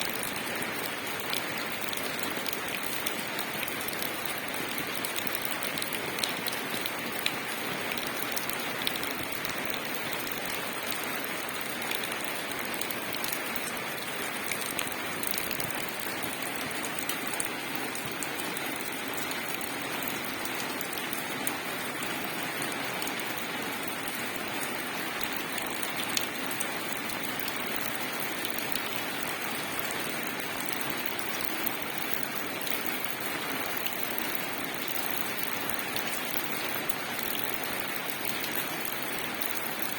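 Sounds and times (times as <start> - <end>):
rain falling on leaves: 0.0 - 39.9
water drips: 0.0 - 39.9.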